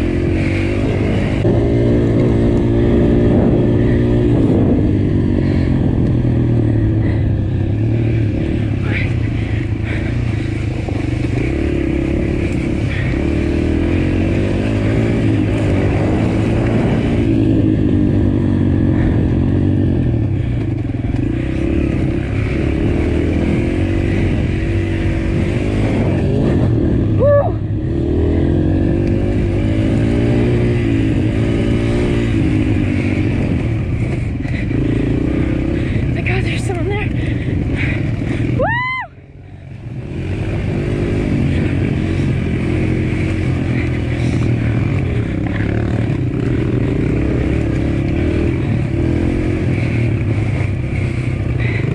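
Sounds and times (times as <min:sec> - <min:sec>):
dirt bike engine revving: 0:00.0 - 0:38.6, 0:39.8 - 0:51.9.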